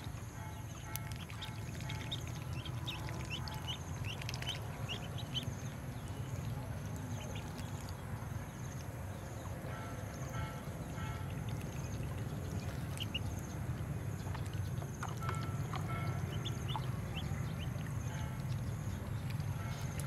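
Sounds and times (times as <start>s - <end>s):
steady low rumble: 0.0s - 20.0s
ducklings peeping: 0.4s - 20.0s.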